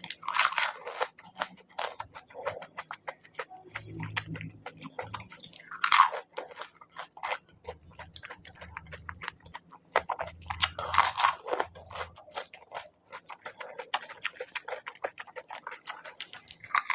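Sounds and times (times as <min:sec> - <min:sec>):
crunching and chewing crisp food: 0:00.0 - 0:16.9.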